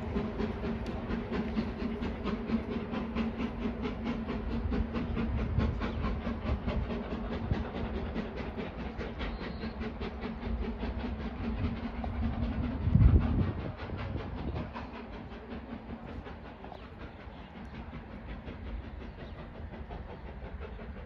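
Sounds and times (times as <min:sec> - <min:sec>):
steam locomotive exhaust beats: 0:00.0 - 0:21.0.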